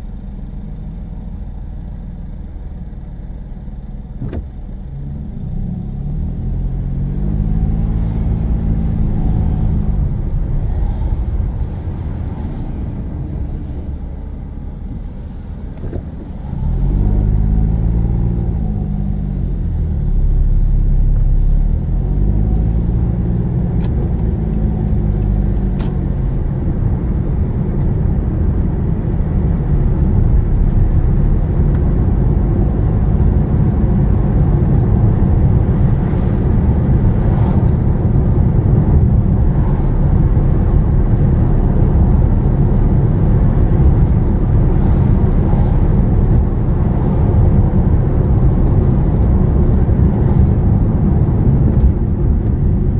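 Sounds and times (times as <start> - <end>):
car engine: 0.0 - 52.9
road rumble inside car: 0.0 - 52.9.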